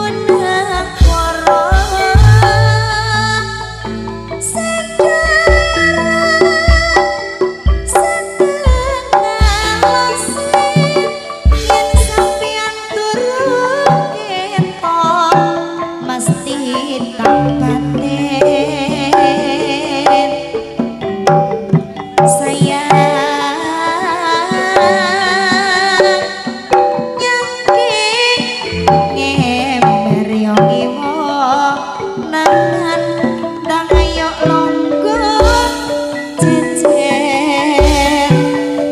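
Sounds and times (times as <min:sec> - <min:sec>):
hand drum patterns: 0:00.0 - 0:38.9
wavering melody: 0:00.0 - 0:38.9.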